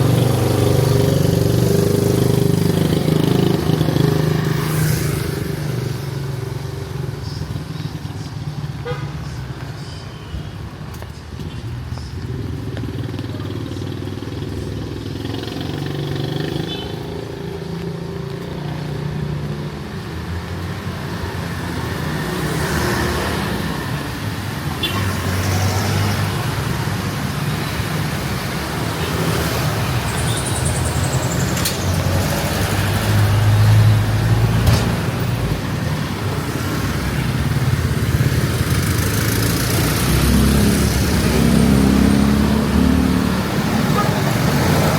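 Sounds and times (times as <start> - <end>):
cars passing: 0.0 - 44.9
motorcycles passing: 0.0 - 44.9.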